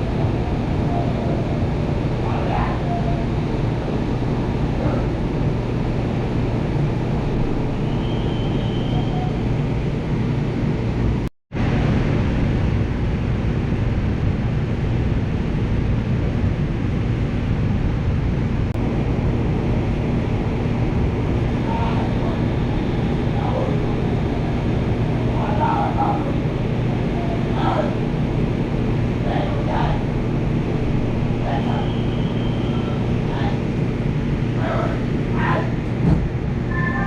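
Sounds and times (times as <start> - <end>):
faint steady hum: 0.0 - 37.0
train running rumble: 0.0 - 37.0.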